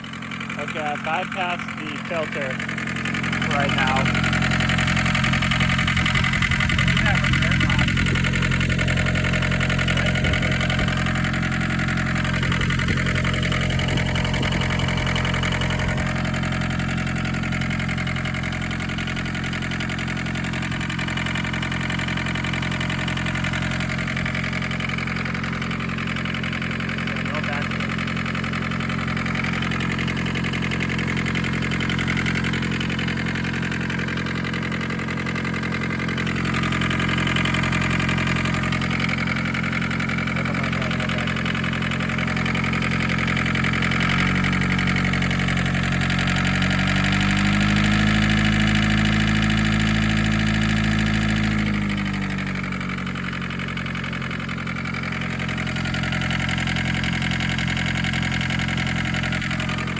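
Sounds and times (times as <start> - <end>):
diesel engine idling and revving: 0.0 - 59.9.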